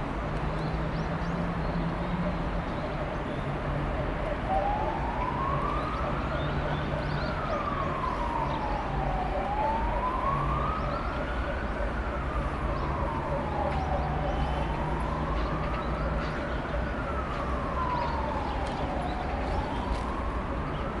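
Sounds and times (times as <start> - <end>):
siren wailing: 4.0 - 21.0.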